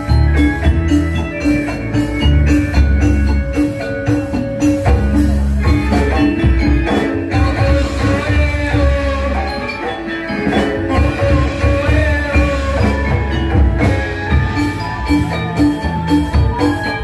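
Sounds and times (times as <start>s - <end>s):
bright metallophone notes: 0.0s - 17.0s
loud steady drumming: 0.0s - 17.0s.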